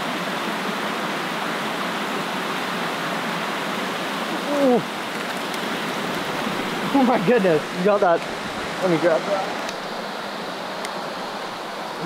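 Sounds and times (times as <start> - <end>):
creek cascade water rushing: 0.0 - 12.0.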